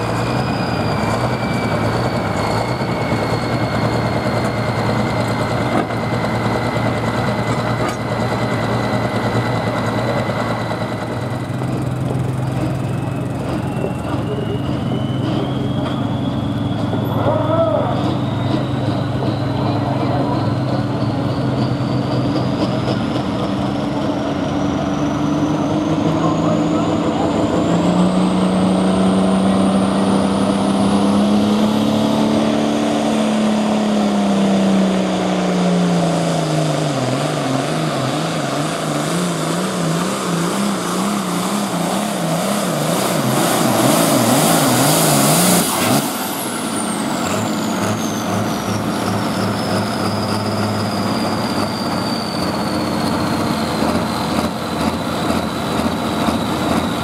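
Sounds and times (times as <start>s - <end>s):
diesel tractor engine at full throttle: 0.0s - 57.0s
high turbo whine: 0.0s - 57.0s.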